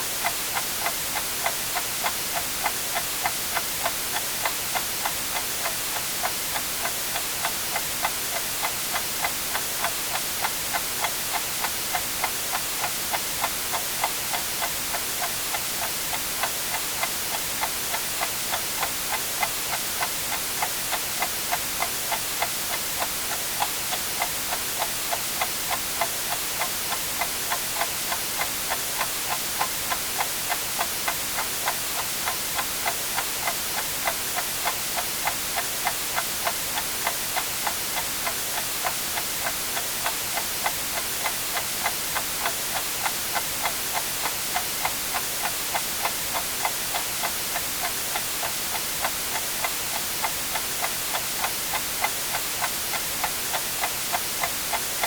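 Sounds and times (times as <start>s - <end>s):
white-noise hiss: 0.0s - 55.0s
clock ticking: 0.2s - 55.0s.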